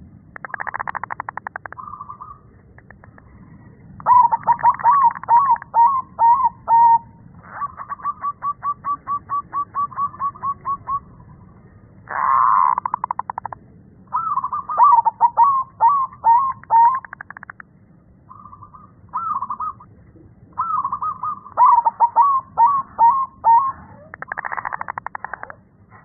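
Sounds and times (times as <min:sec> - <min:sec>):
dove cooing: 0:00.4 - 0:11.4, 0:14.1 - 0:17.6, 0:18.3 - 0:26.0.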